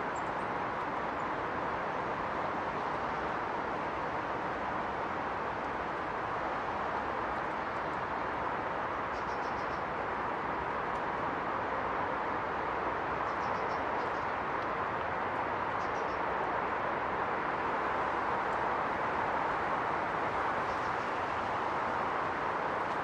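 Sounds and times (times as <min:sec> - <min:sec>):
flowing river water: 0:00.0 - 0:23.0.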